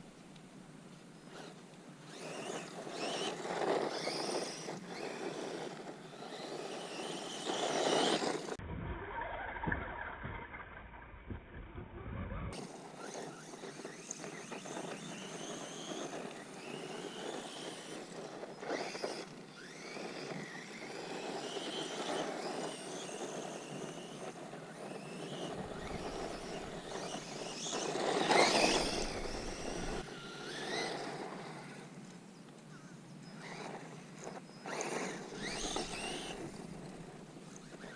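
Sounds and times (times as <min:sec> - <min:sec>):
electric motor whining: 0:01.3 - 0:08.6, 0:12.4 - 0:32.0, 0:32.8 - 0:37.9.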